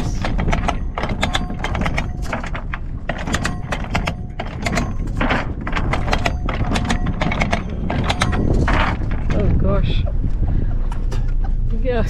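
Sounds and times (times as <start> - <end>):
anchor chain clanking: 0.0 - 10.1
wind rumbling on microphone: 0.0 - 12.0.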